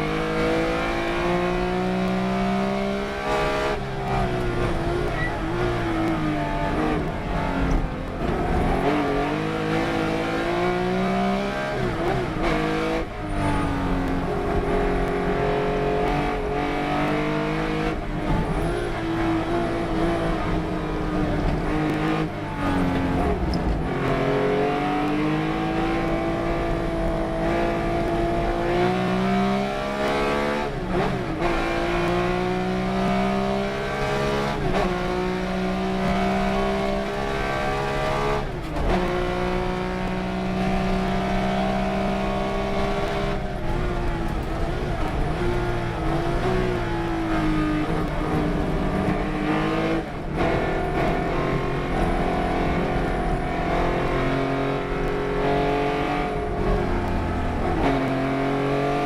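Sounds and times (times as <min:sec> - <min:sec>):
race car engine: 0:00.0 - 0:59.0.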